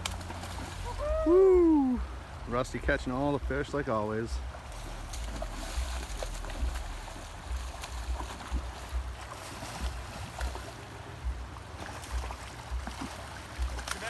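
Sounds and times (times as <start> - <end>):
water noise: 0.0 - 14.0
wind: 0.0 - 14.0
wind buffeting microphone: 0.0 - 14.0.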